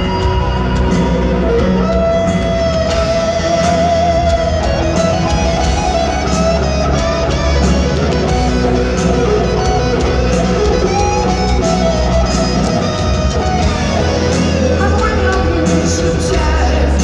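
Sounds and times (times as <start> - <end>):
electric guitar lead: 0.0 - 17.0
rock band playing: 0.0 - 17.0.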